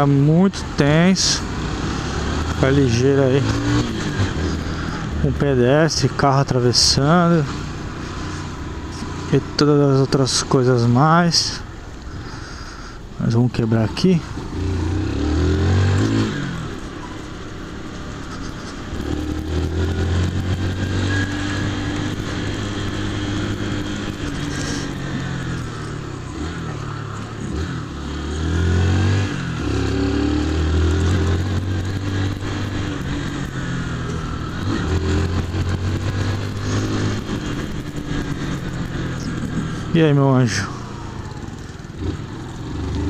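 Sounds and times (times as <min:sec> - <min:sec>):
motorcycle engine shifting gears: 0:00.0 - 0:12.8, 0:13.5 - 0:43.0.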